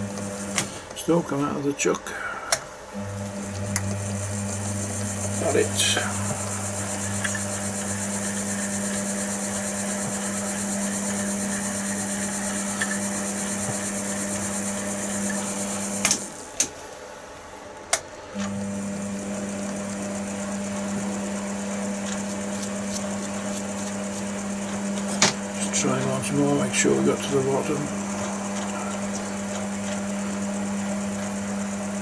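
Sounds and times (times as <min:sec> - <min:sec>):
lathe motor hum: 0:00.0 - 0:01.0, 0:02.9 - 0:16.6, 0:18.3 - 0:32.0.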